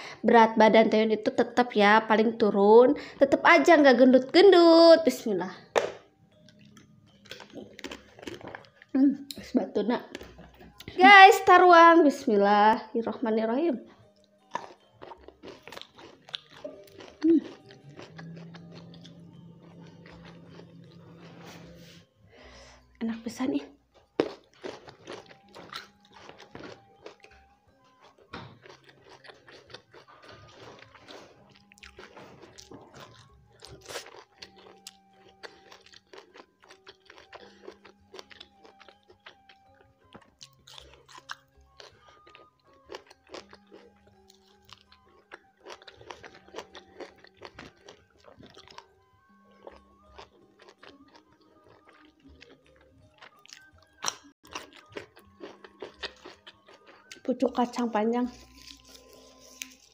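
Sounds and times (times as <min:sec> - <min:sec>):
chewing and crunching food: 0:00.0 - 0:59.9
soft background music with bass: 0:00.0 - 0:59.9.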